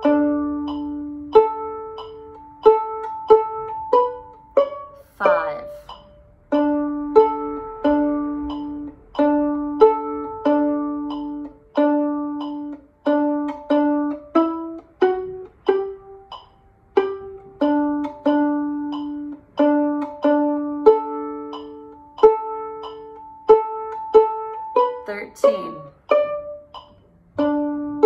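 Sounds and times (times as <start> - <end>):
metronome ticking: 0.0 - 28.0
violin pizzicato notes: 0.0 - 28.0.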